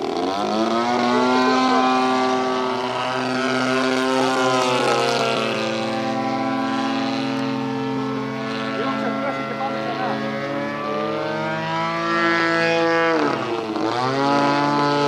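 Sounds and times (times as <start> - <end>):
model plane engine buzzing: 0.0 - 15.0
second engine sliding in pitch: 0.0 - 15.0.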